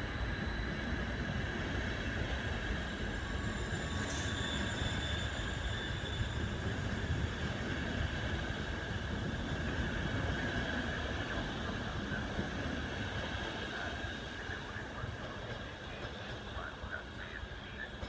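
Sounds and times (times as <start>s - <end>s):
wheels rumbling on rail: 1.2s - 18.0s.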